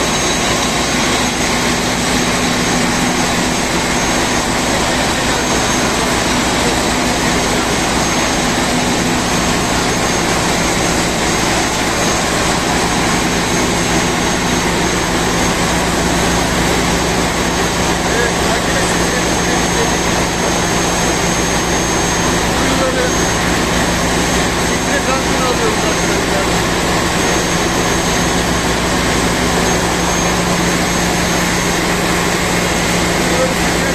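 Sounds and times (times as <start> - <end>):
engine-room machinery din: 0.0 - 33.9
faint high whine: 0.0 - 33.9.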